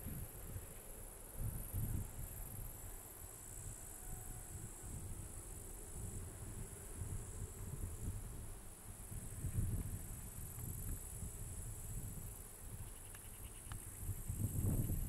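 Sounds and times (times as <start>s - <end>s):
insects chirring: 0.1s - 15.0s.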